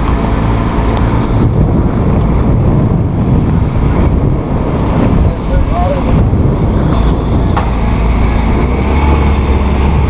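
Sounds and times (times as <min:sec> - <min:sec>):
boat motor running: 0:00.0 - 0:10.0
wind on microphone: 0:00.0 - 0:10.0.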